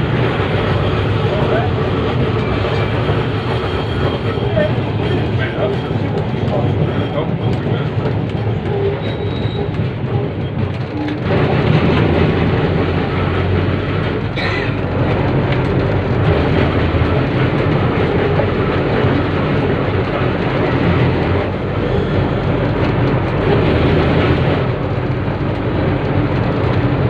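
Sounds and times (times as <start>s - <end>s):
tram running on rails: 0.0s - 27.0s.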